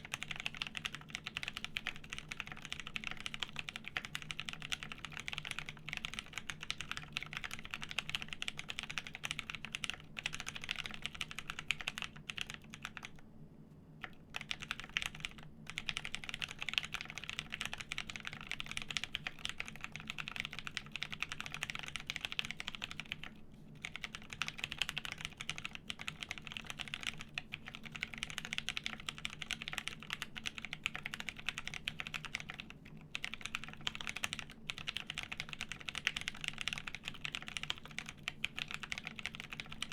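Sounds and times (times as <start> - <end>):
mechanical keyboard typing: 0.0 - 13.2, 14.0 - 39.9.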